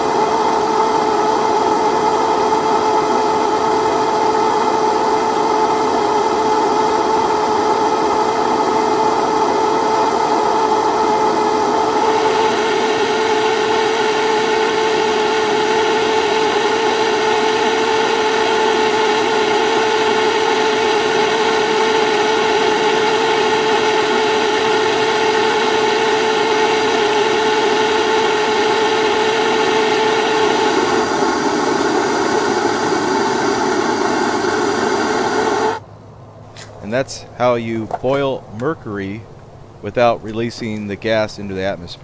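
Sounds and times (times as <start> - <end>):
propane torch roaring: 0.0 - 35.8.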